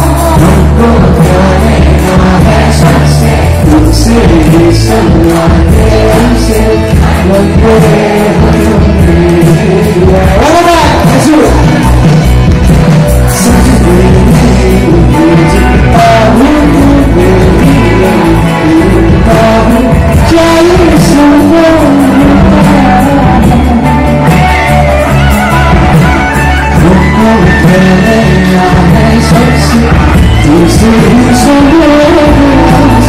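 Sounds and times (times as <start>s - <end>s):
live rock band playing: 0.0s - 33.0s
man singing lead vocals: 0.0s - 33.0s.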